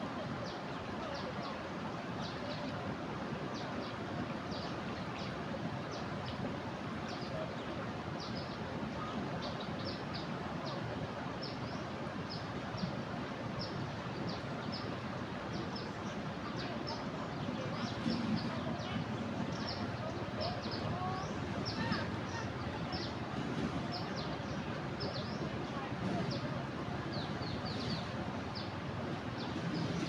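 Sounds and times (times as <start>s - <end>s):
fast-flowing river water: 0.0s - 30.0s.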